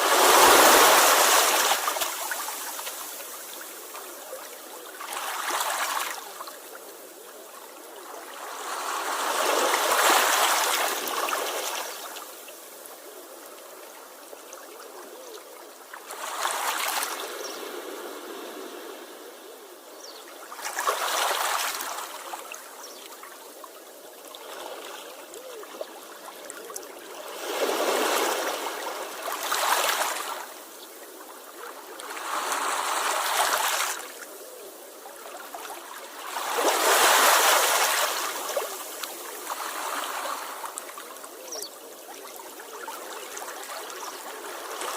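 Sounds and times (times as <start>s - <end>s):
sea waves washing onto shore: 0.0s - 14.4s, 15.6s - 23.5s, 24.3s - 44.9s.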